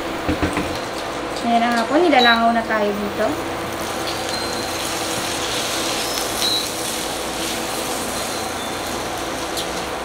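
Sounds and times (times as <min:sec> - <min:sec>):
cooking hiss: 0:00.0 - 0:10.0.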